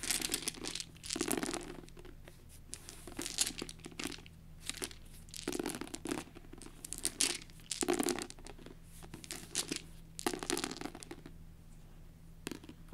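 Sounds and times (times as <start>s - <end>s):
dice scraping across book cover: 0.0s - 11.2s
dice clicking together: 0.0s - 11.3s.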